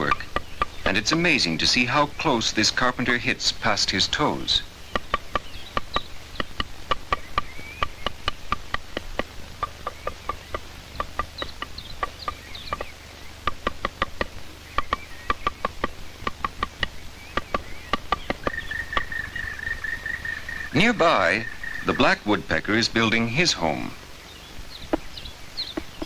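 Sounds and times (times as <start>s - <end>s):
woodpecker tapping on wood: 0.0s - 24.0s, 24.6s - 26.0s
faint bird chirps: 0.0s - 26.0s.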